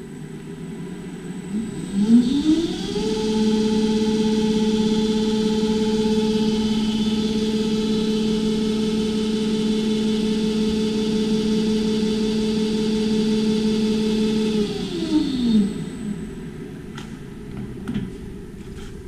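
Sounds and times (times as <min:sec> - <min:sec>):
electric drive humming: 0:00.0 - 0:19.0.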